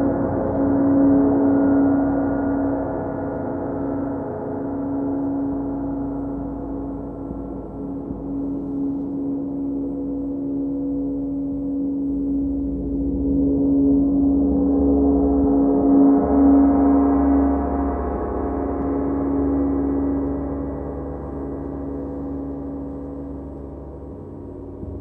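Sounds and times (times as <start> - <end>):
low gong tone: 0.0 - 25.0.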